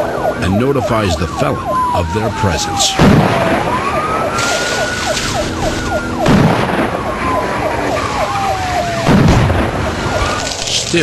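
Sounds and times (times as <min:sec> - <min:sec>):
fast falling siren tone: 0:00.0 - 0:10.8
police siren wailing: 0:00.0 - 0:11.0.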